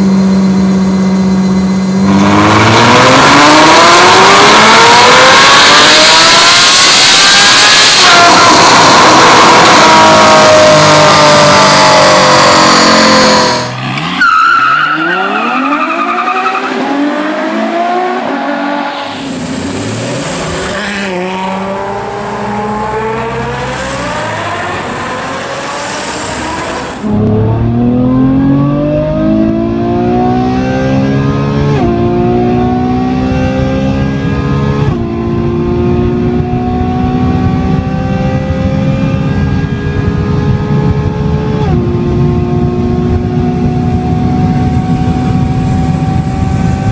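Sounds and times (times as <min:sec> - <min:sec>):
sports car engine accelerating: 0:00.0 - 0:46.9.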